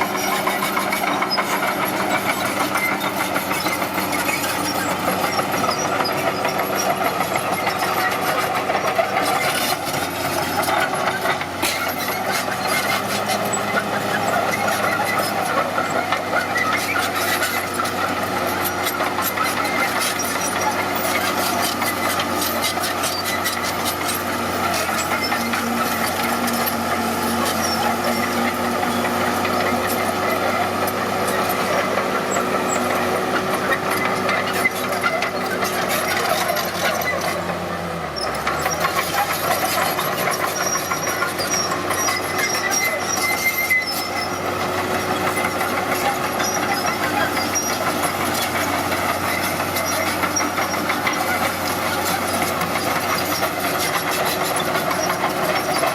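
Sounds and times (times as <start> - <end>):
clattering squealing mechanical noise: 0.0 - 55.9
heavy machinery diesel engine running: 0.0 - 55.9.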